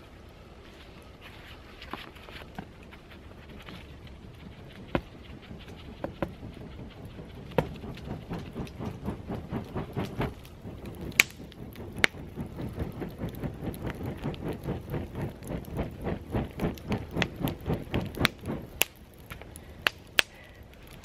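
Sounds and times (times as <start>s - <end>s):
rhythmic whooshes of air: 0.0s - 21.0s
burning wood snapping: 1.9s - 21.0s.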